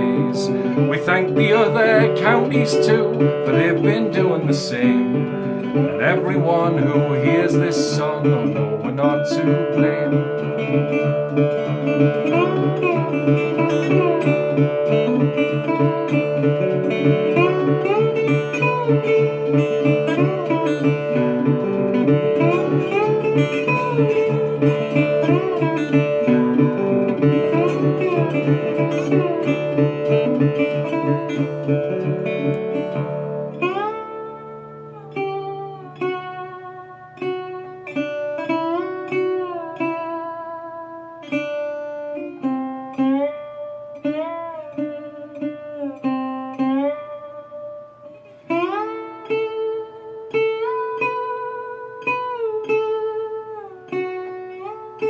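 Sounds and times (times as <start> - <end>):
acoustic guitar folk instrumental: 0.0 - 55.0.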